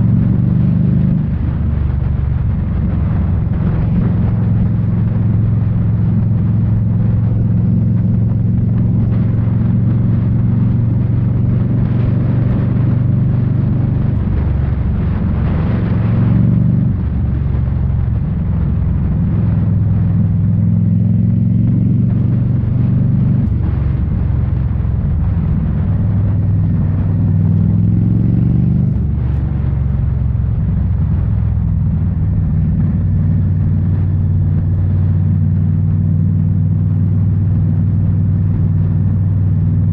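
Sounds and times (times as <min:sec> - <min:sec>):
motorcycle exhaust while riding: 0:00.0 - 0:39.9.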